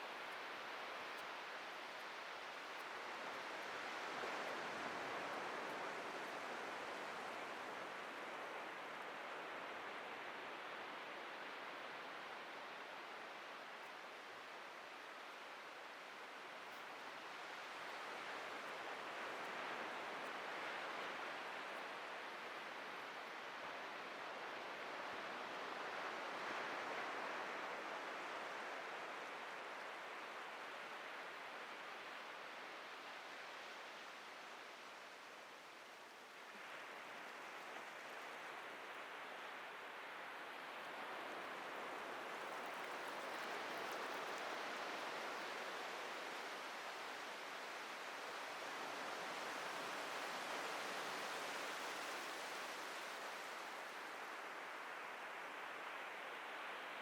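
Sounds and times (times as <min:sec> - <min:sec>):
surf waves breaking on beach: 0:00.0 - 0:57.0.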